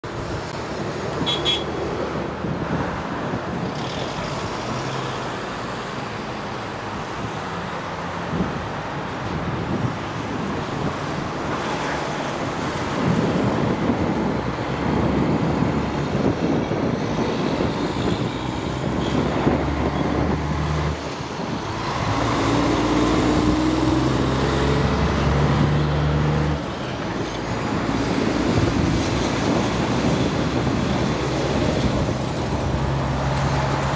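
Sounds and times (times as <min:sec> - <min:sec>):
truck diesel engine: 0:00.0 - 0:33.9
tyre and road noise: 0:00.0 - 0:33.9.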